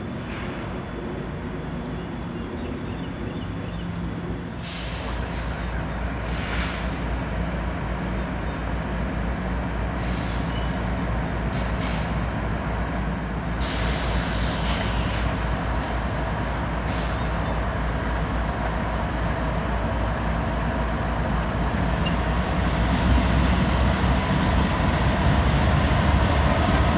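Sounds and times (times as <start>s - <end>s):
diesel locomotive engine rumble: 0.0s - 26.9s.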